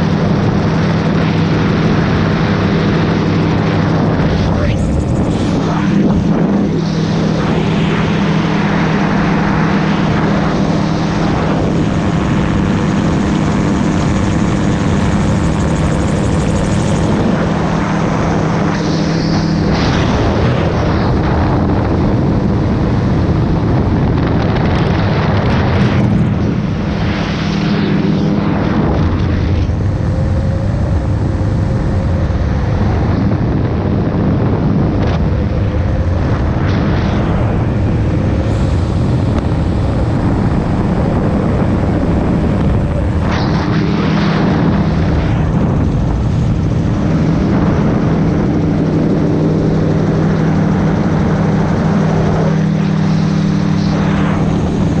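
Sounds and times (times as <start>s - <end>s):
aircraft engine and propeller: 0.0s - 55.0s
wind rush: 0.0s - 55.0s.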